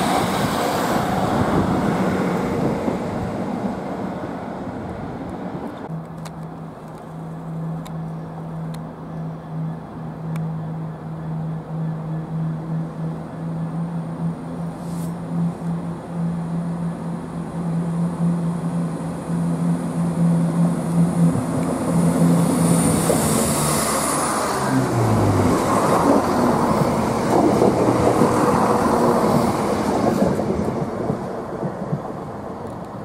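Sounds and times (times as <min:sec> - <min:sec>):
train passing low hum: 0:00.0 - 0:33.0
wheels rushing on rails: 0:00.0 - 0:33.0.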